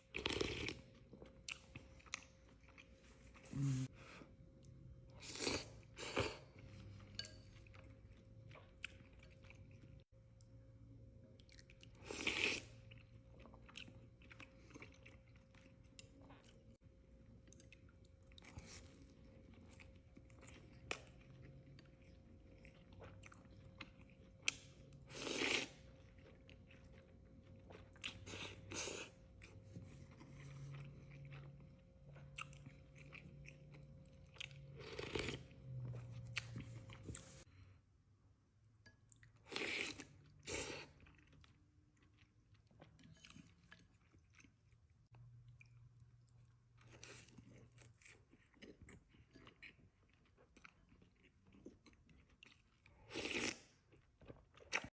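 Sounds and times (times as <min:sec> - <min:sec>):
person chewing food: 0:00.0 - 0:10.5, 0:11.3 - 0:37.6, 0:39.0 - 0:54.9.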